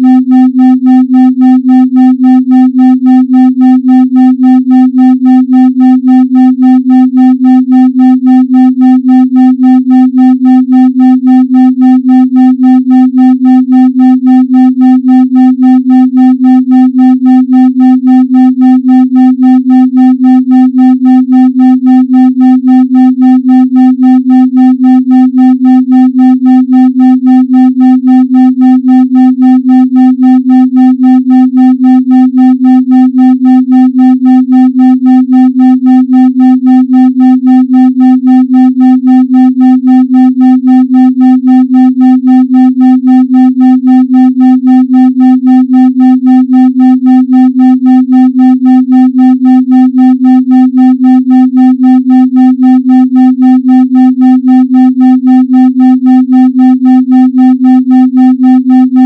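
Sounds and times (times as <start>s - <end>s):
pulsing electronic tone: 0.0s - 59.0s.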